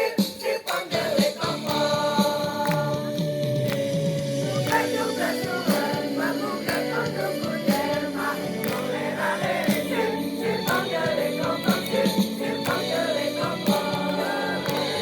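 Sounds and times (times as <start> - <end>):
choir singing: 0.0 - 3.5, 4.4 - 15.0
steady beat accompaniment: 0.0 - 15.0.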